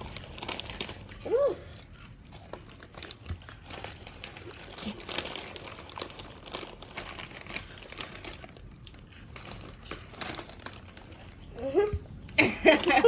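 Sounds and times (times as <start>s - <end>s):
snack bag crinkling: 0.0s - 11.8s.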